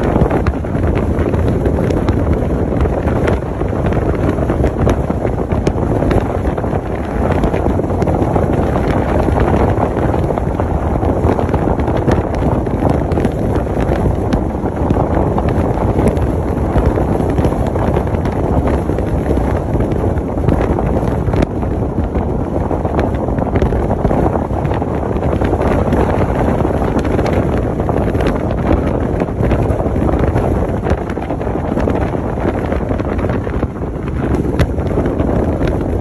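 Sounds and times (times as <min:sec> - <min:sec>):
car road noise: 0:00.0 - 0:36.0
wind rushing over microphone: 0:00.0 - 0:36.0.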